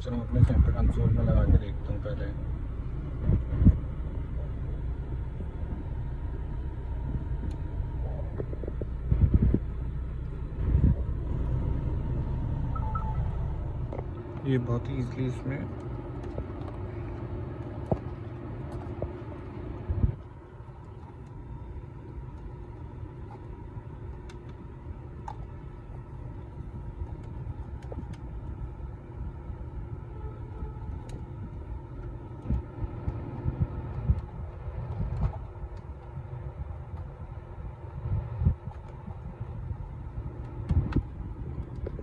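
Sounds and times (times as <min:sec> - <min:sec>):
faint steady hum: 0:00.0 - 0:42.0
low car cabin rumble: 0:00.0 - 0:42.0.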